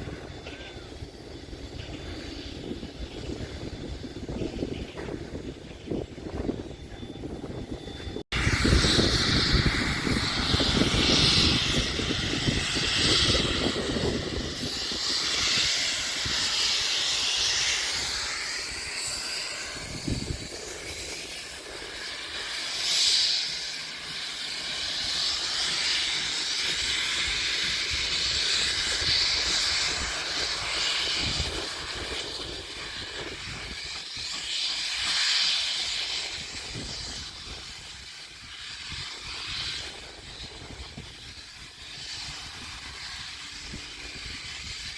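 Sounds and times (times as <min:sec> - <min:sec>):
hiss of steam: 0:00.0 - 0:44.9
rail rumble: 0:00.0 - 0:44.9.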